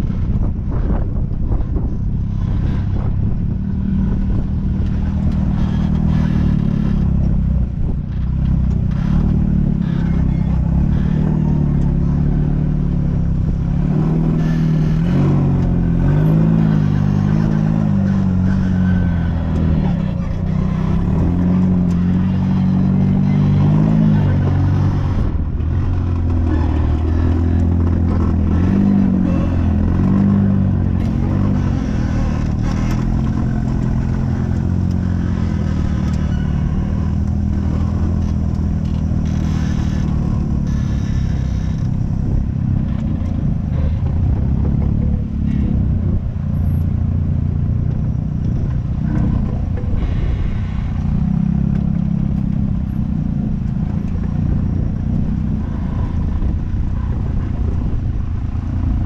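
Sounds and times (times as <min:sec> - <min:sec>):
engine clatter: 0:00.0 - 0:59.0
off-road vehicle engine revving: 0:00.0 - 0:59.0.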